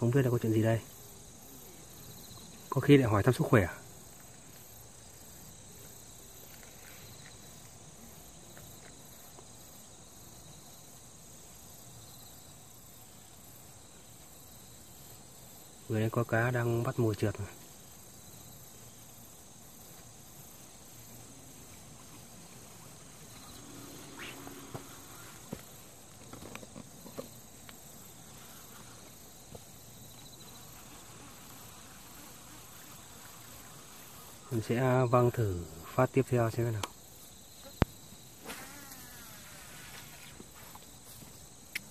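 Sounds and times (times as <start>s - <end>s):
faint outdoor background noise: 0.0s - 41.9s
insect chorus: 0.0s - 41.9s
pulsing insect trill: 0.0s - 41.9s.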